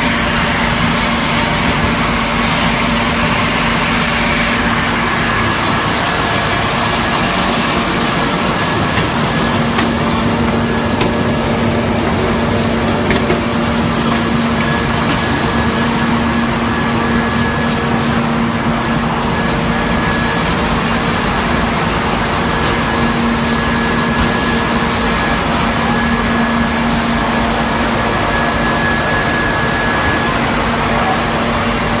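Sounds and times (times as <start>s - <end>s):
high machine whine: 0.0s - 32.0s
machinery hum: 0.0s - 32.0s.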